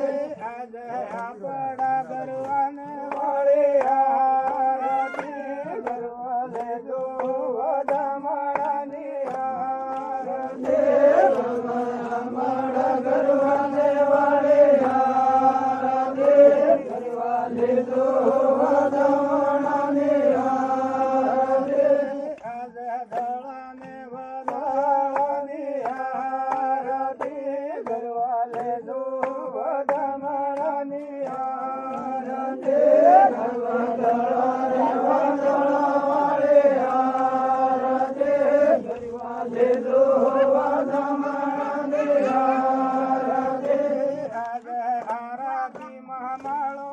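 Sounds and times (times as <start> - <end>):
devotional chanting in long notes: 0.0 - 46.9.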